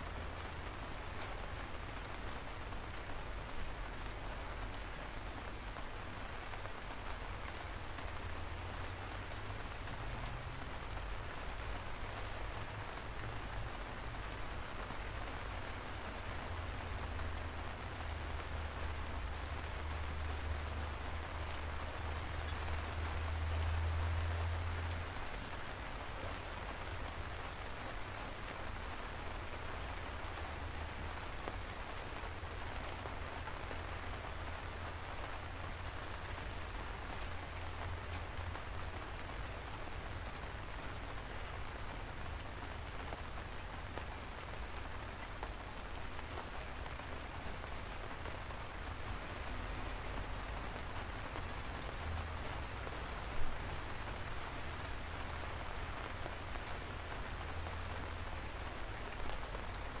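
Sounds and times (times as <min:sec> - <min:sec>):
steady rain: 0:00.0 - 1:00.0
rain drop ticks: 0:00.1 - 1:00.0.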